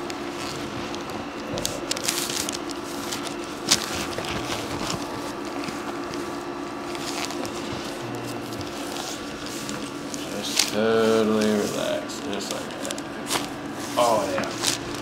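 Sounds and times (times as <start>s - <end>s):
steady low hum: 0.0s - 15.0s
rustling of hands and clothing: 0.2s - 15.0s.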